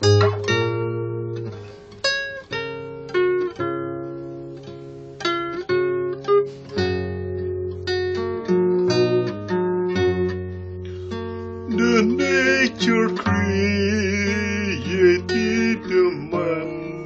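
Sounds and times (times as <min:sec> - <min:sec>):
classical guitar fingerstyle: 0:00.0 - 0:17.0.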